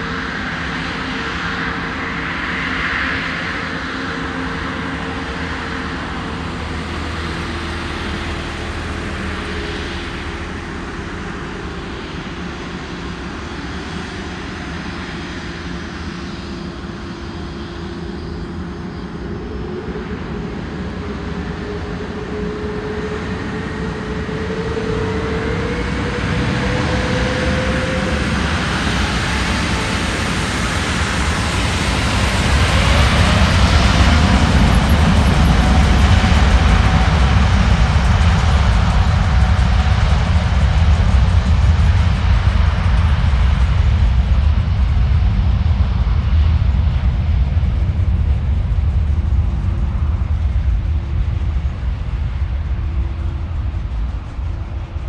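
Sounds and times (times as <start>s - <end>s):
jet engines humming and whining: 0.0s - 55.0s.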